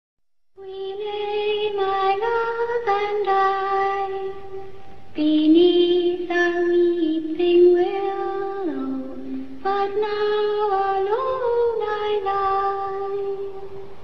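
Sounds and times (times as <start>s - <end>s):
high voice singing unaccompanied: 0.6s - 13.9s.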